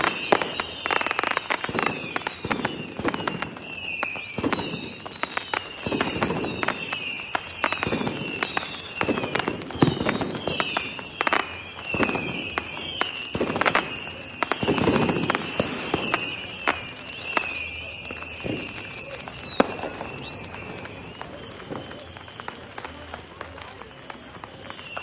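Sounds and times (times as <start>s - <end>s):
whistles gliding down in pitch: 0.0s - 22.8s, 23.6s - 25.0s
deep fireworks booms: 0.0s - 25.0s
fireworks bangs and crackles: 0.0s - 25.0s.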